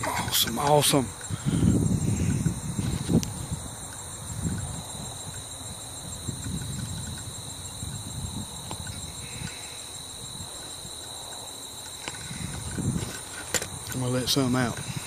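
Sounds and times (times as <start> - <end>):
insects chirring: 0.0 - 15.0
wind buffeting microphone: 0.0 - 15.0.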